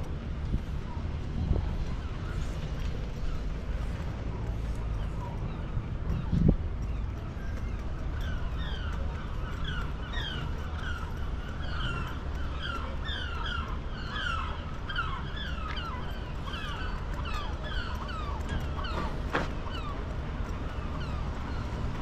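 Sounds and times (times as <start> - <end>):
birds calling: 1.5 - 22.0.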